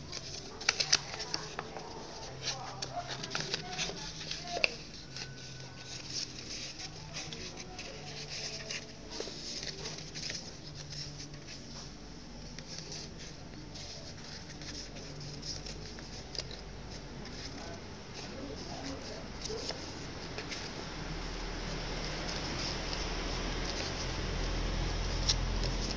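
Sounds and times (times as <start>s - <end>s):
paper rustling and crinkling: 0.0s - 25.9s.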